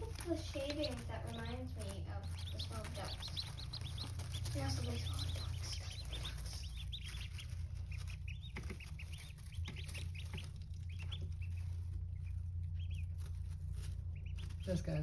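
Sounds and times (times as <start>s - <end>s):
ducklings peeping: 0.0s - 15.0s
steady low hum: 0.0s - 15.0s.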